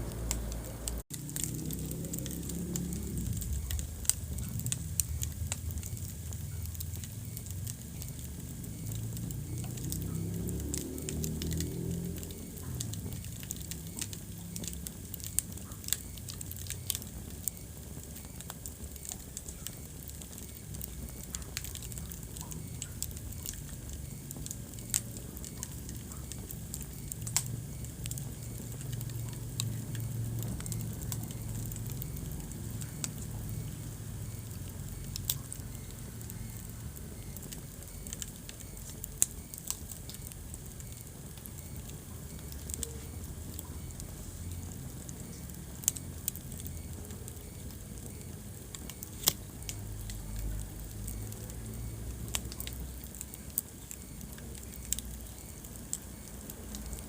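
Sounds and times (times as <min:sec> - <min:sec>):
fire crackling and popping: 0:00.0 - 0:57.0
fire rumbling and hissing: 0:00.0 - 0:57.0.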